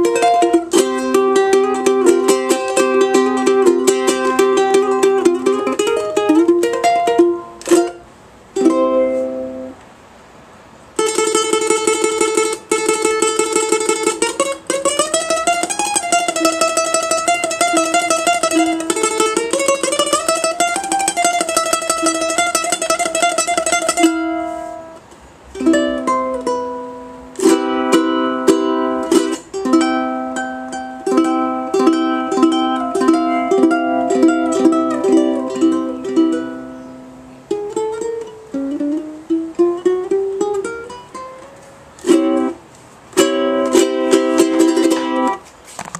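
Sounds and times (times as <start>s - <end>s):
ukulele strumming: 0.0s - 9.8s, 10.9s - 45.9s.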